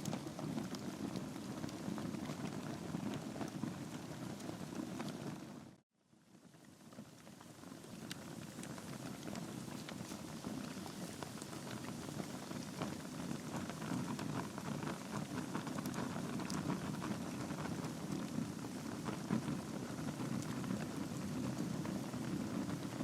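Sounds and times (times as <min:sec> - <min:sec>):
log fire crackling and popping: 0:00.0 - 0:05.7, 0:06.5 - 0:23.0.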